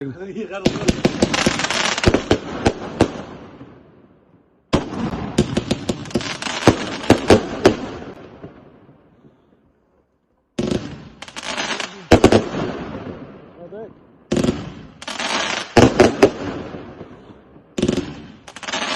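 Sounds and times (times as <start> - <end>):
fireworks bangs echoing: 0.2 - 9.6, 10.5 - 18.9.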